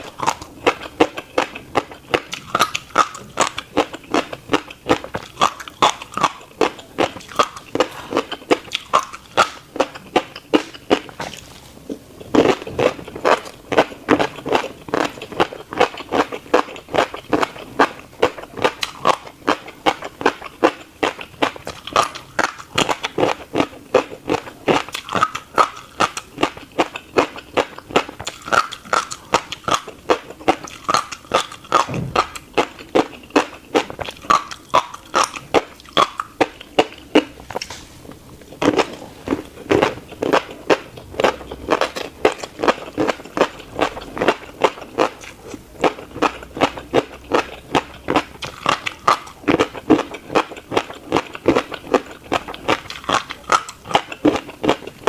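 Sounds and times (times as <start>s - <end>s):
chewing crunchy seeds: 0.0s - 55.0s.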